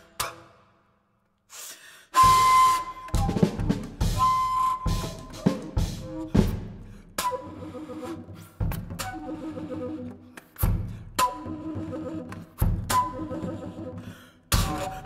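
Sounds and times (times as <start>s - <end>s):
breathy held flute tone: 2.1s - 15.0s.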